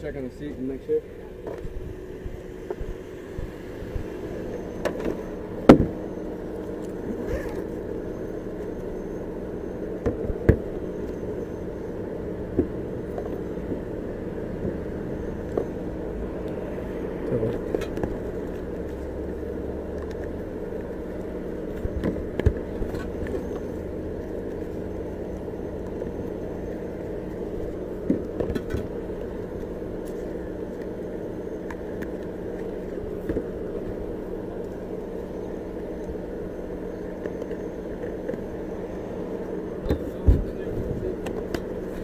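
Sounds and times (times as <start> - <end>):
vehicle idling hum: 0.0 - 42.0.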